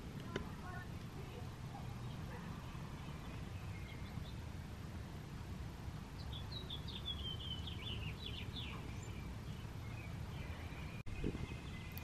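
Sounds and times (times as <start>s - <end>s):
low outdoor rumble: 0.0s - 12.0s
songbird chirping: 0.0s - 12.0s.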